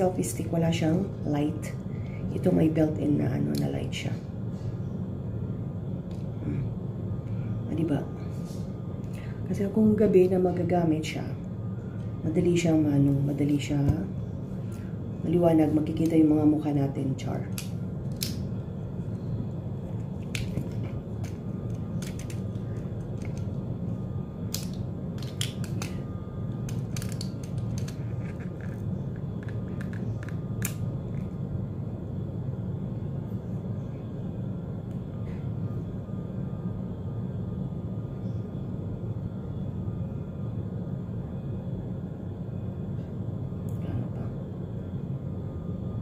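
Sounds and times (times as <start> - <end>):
low hum: 0.0 - 46.0.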